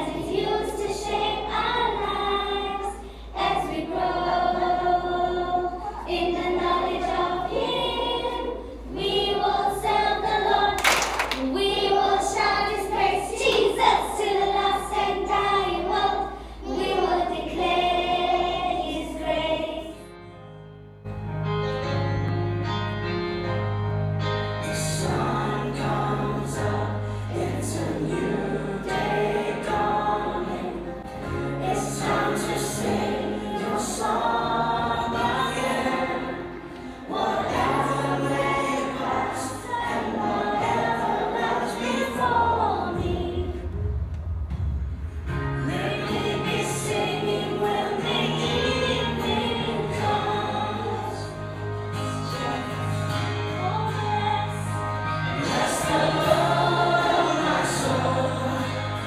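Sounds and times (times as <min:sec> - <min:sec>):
young voices singing together: 0:00.0 - 0:20.2, 0:24.6 - 0:59.0.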